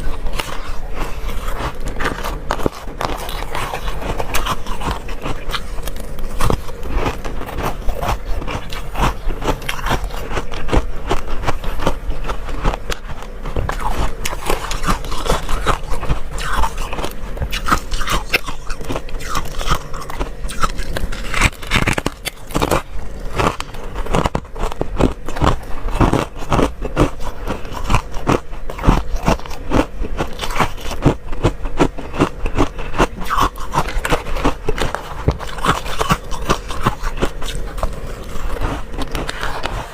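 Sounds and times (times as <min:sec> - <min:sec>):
faint steady hum: 0:00.0 - 0:39.9
frost being chewed crunching: 0:00.0 - 0:39.9.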